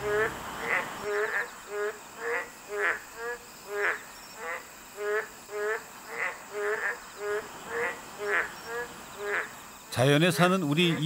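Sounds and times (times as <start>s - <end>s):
faint high insect hum: 0.0s - 11.0s
frogs croaking: 0.0s - 11.0s.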